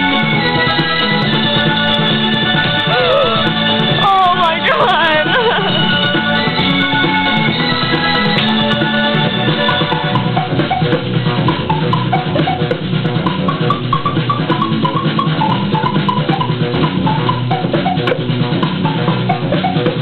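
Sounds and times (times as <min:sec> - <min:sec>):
staccato melody: 0:00.0 - 0:20.0
upbeat music with drum beat: 0:00.0 - 0:20.0.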